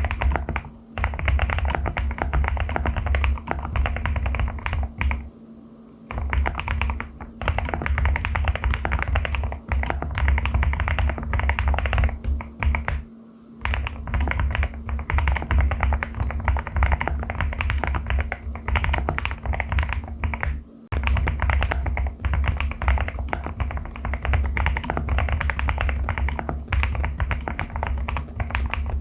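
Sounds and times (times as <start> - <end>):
fast mechanical keyboard typing: 0.0 - 5.3, 6.1 - 13.0, 13.6 - 29.0.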